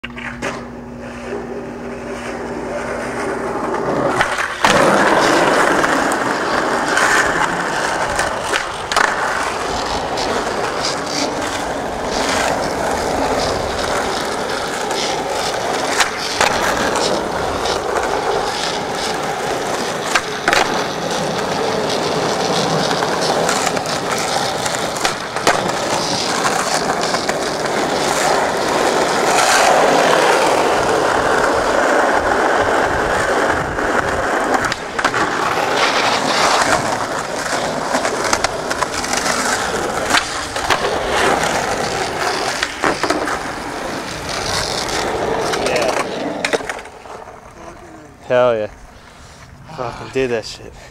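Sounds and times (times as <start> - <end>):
skateboard clacks: 0.0 - 48.9
skateboard wheels rolling on asphalt: 0.0 - 50.9.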